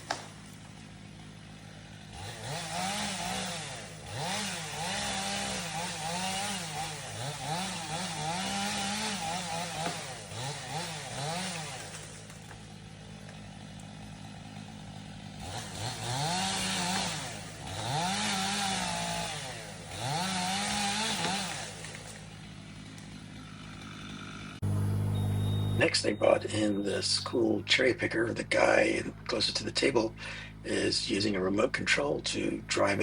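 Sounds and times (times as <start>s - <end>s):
chainsaw engine revving: 0.0s - 31.2s.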